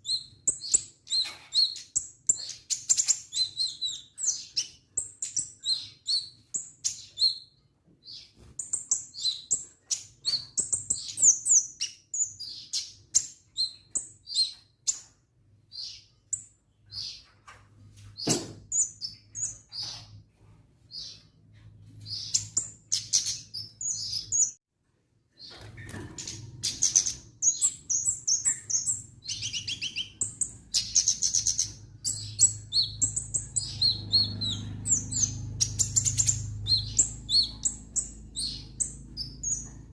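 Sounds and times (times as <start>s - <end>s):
songbird chirping and trilling: 0.0s - 20.3s, 20.9s - 24.6s, 25.3s - 39.9s.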